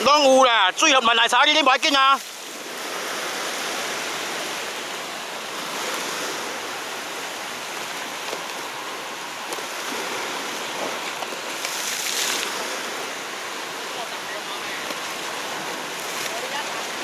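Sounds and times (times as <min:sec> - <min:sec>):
sea waves washing: 0:00.0 - 0:17.0.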